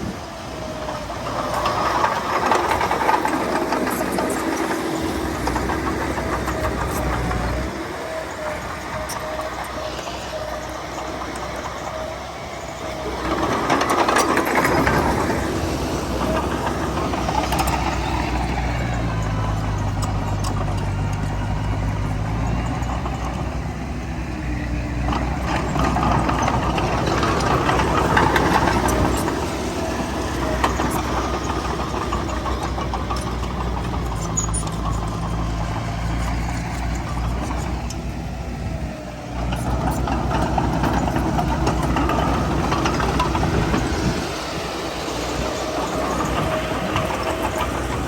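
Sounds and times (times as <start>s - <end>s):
heavy diesel engine working: 0.0s - 48.0s.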